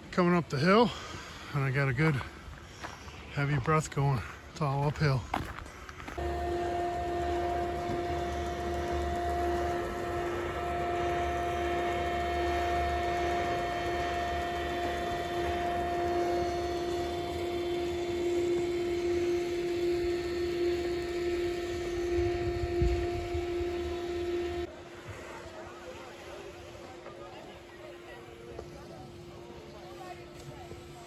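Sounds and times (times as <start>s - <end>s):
electric machinery hum: 0.0s - 31.0s.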